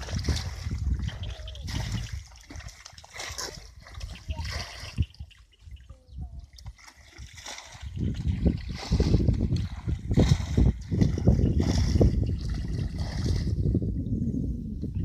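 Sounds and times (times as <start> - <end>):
water splashing from bucket: 0.0 - 5.2, 6.5 - 13.6.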